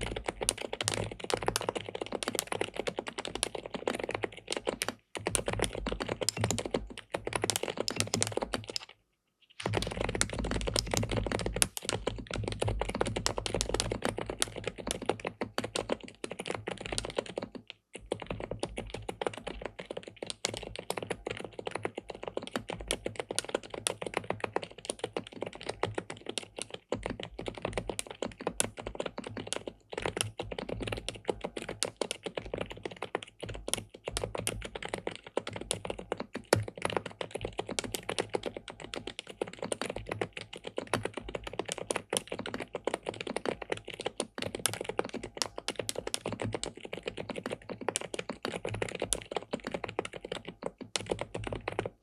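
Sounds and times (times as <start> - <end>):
fast mechanical keyboard typing: 0.0 - 52.0.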